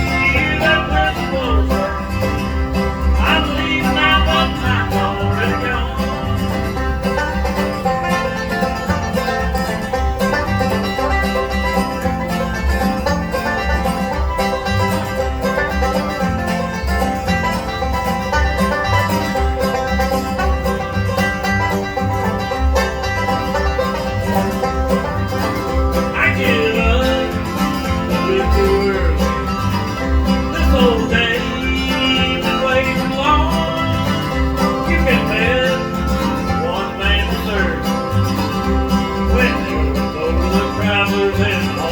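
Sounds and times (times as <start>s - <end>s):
banjo: 0.0s - 41.9s
bluegrass band playing: 0.0s - 41.9s
wavering lead melody: 0.0s - 41.9s.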